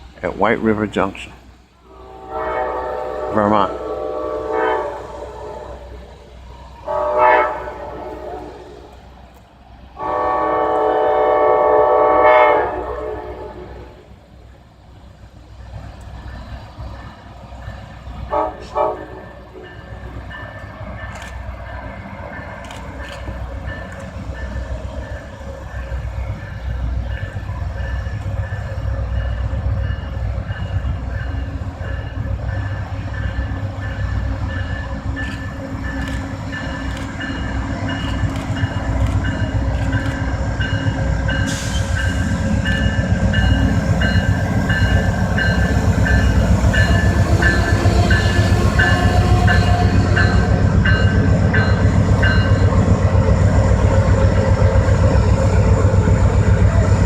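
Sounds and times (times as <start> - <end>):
diesel locomotive rumbling: 0.0 - 57.0.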